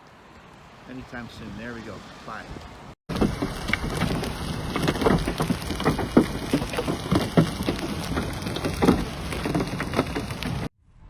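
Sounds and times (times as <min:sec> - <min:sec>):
heavy rain on hard surface: 0:00.0 - 0:10.7.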